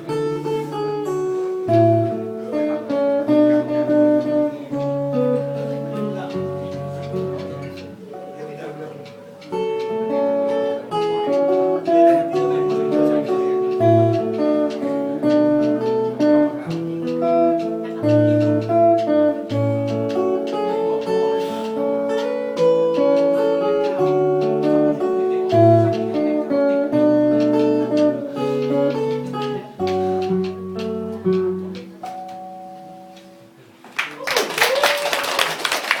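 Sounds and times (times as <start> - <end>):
fingerstyle acoustic guitar: 0.0 - 33.8.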